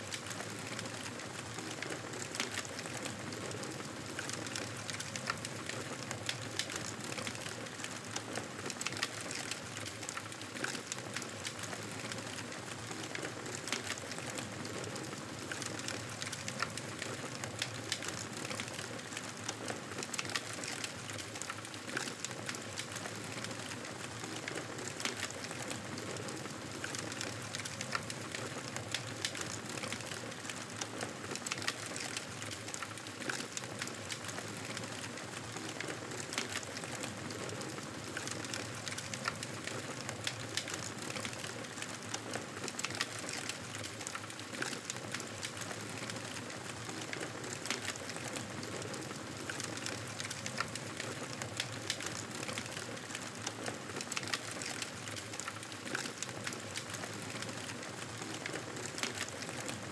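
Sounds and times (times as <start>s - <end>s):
campfire crackling and popping: 0.0s - 59.8s.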